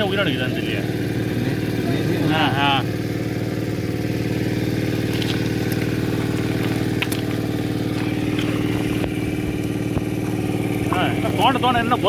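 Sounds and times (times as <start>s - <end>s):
diesel water pump engine running: 0.0s - 12.0s.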